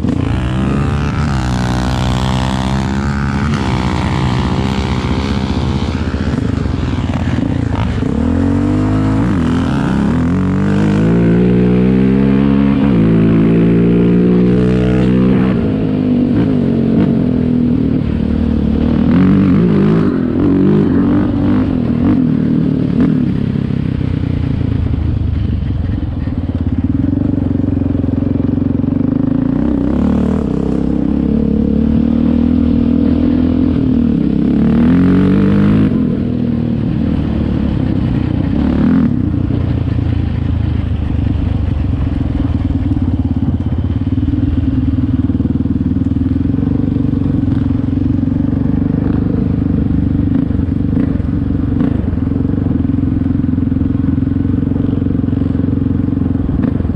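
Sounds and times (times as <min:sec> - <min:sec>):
atv engine revving: 0:00.0 - 0:24.7, 0:25.3 - 0:56.9.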